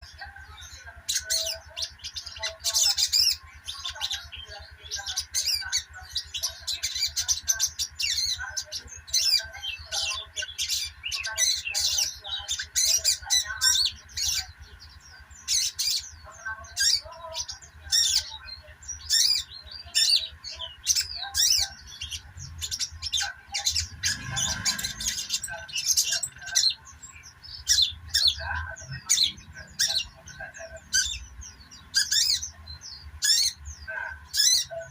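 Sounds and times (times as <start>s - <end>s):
sunbird twittering: 0.0s - 34.9s.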